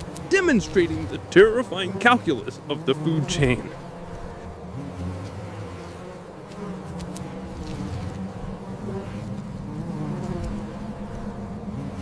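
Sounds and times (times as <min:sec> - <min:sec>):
insect wings buzzing: 0:00.0 - 0:12.0.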